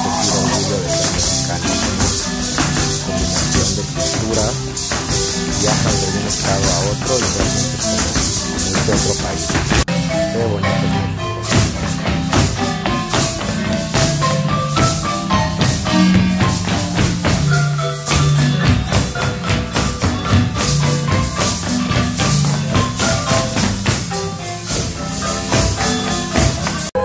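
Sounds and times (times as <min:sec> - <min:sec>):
jingling percussion: 0:00.0 - 0:26.9
lively marimba music: 0:00.0 - 0:27.0.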